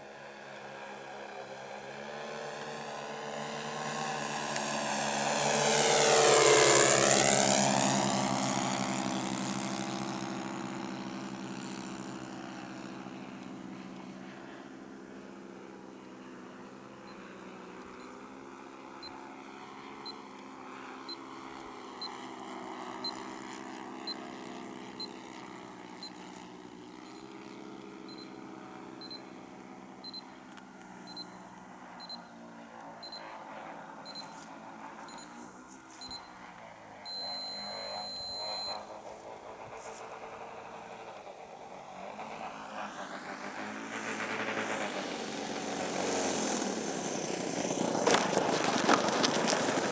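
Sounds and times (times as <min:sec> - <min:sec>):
model plane engines droning: 0:00.0 - 0:49.9.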